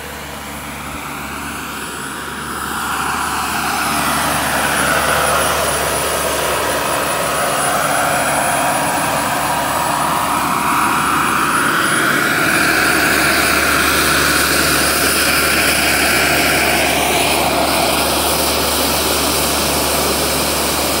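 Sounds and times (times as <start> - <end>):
model helicopter turbine whine: 0.0 - 21.0.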